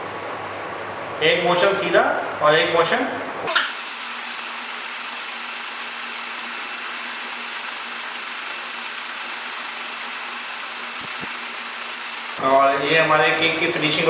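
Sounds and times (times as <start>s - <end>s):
room noise hiss: 0.0s - 12.5s.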